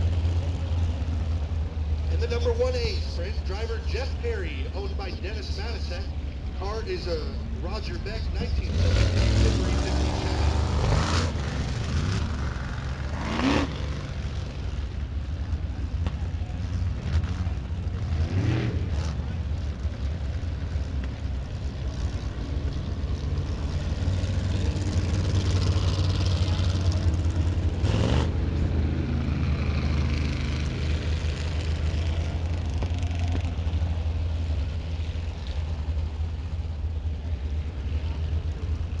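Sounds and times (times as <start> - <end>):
racing engines drone: 0.0 - 39.0.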